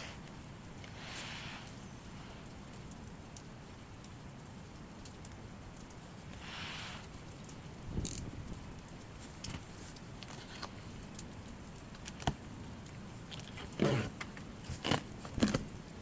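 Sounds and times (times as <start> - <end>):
firewood burning with crackles: 0.0 - 16.0.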